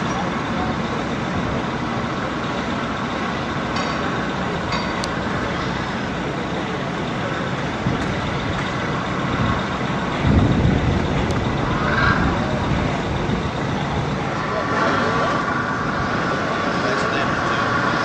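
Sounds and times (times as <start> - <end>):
diesel engine rumble: 0.0 - 18.0.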